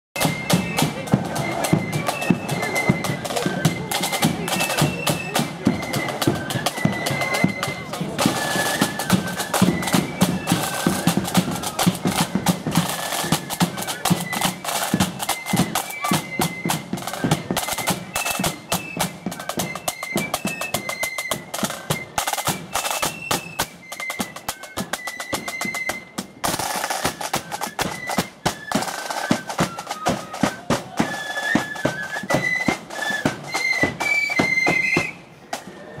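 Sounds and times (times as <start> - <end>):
rapid snare drumming: 0.2 - 35.7
high flute melody: 0.2 - 36.0.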